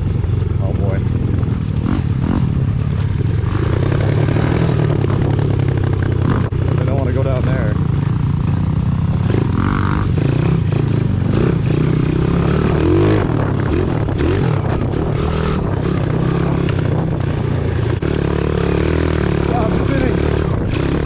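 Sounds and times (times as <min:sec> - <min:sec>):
bike rattling and knocking: 0:00.0 - 0:21.0
small motorbike engine revving: 0:00.0 - 0:21.0.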